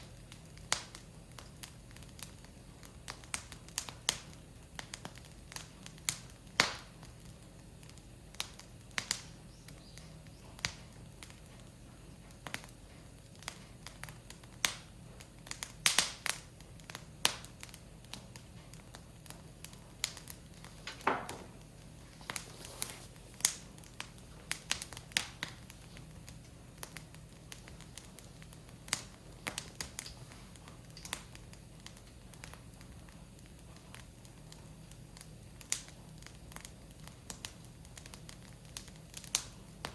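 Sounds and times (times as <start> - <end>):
wood fire crackling: 0.0 - 39.9
sharp pops and snaps: 0.3 - 11.7, 12.3 - 39.9.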